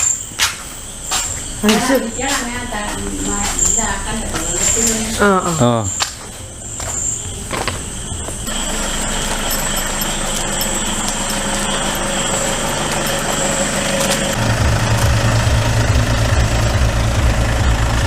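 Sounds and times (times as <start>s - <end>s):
crickets chirring: 0.0s - 16.3s
car engine idling: 0.8s - 18.0s.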